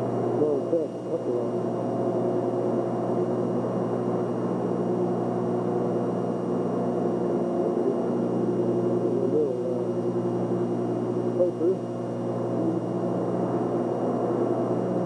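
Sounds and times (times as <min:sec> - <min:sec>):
steady hum of low tones: 0:00.0 - 0:15.0.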